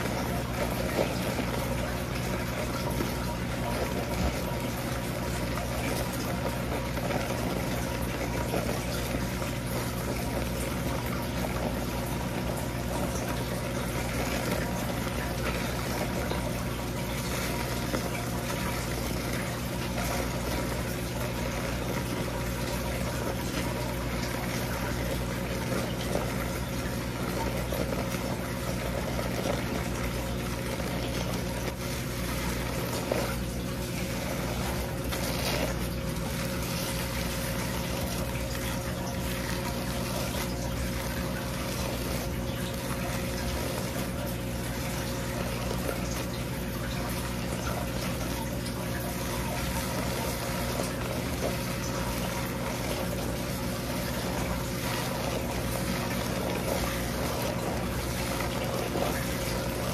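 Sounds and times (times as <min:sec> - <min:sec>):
low steady hum: 0:00.0 - 0:59.9
water running into sink: 0:00.0 - 0:59.9.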